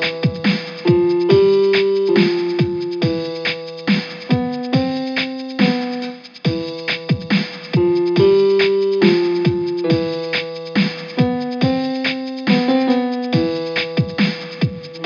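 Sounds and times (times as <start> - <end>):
drum machine beat: 0.0 - 15.0
keyboard chords: 0.0 - 15.0.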